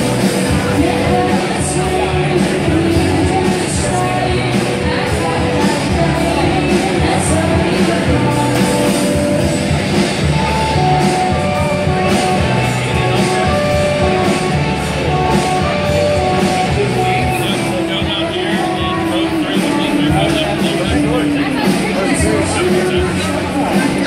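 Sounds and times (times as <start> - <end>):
bass: 0.0 - 24.0
drums: 0.0 - 24.0
guitar: 0.0 - 24.0
person singing: 0.0 - 24.0.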